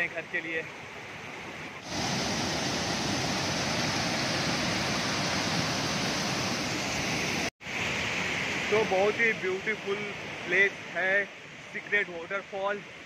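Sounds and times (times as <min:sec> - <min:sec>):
water rushing over rocks: 0:01.8 - 0:13.0.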